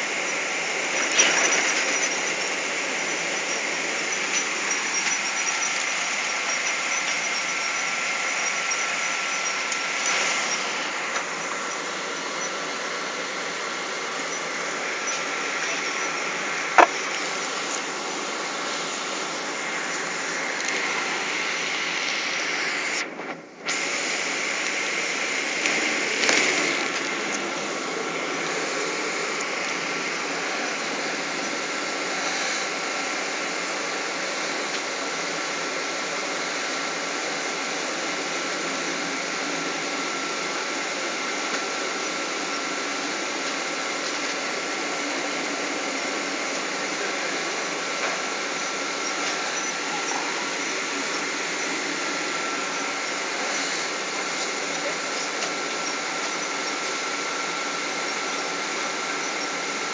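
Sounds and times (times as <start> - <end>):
rushing aircraft cabin noise: 0.0 - 59.9
thin steady whine: 0.0 - 59.9.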